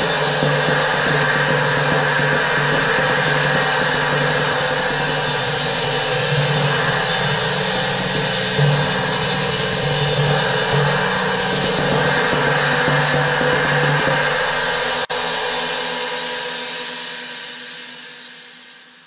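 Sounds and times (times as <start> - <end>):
cymbal wash: 0.0 - 19.0.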